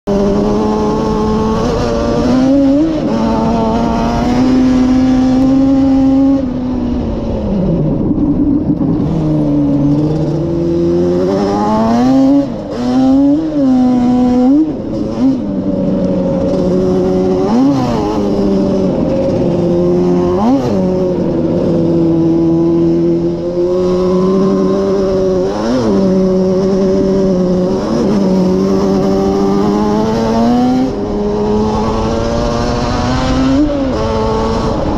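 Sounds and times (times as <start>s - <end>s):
atv engine revving: 0.1s - 34.9s.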